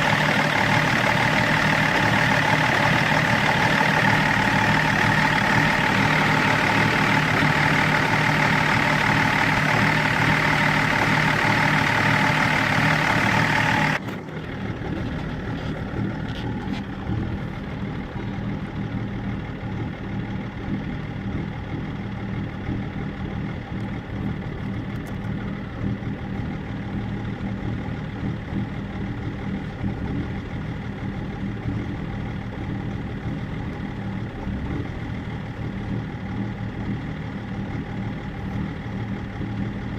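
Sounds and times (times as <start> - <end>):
diesel engine idling roughly: 0.0 - 39.9.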